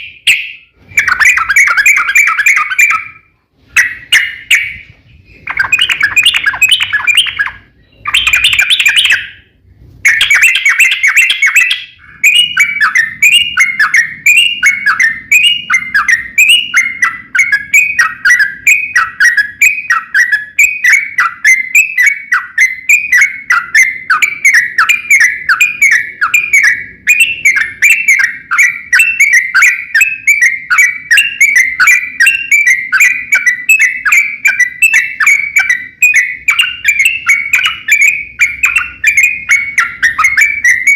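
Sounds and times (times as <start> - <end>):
bird chattering: 0.0 - 40.9
bird singing falling notes: 0.0 - 40.9.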